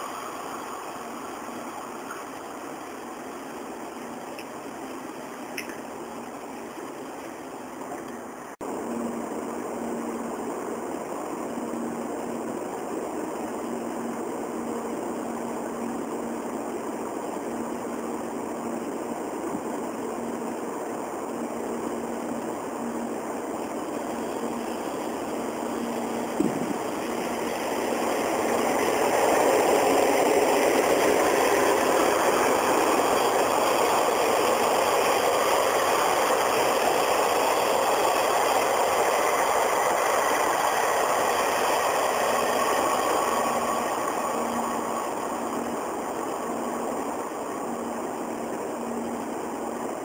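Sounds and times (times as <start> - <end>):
sleeper train passing: 0.0 - 48.6.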